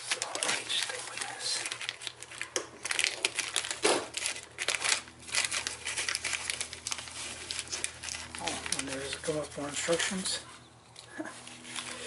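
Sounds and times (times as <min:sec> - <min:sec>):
plastic pouch crinkling: 0:00.0 - 0:10.2.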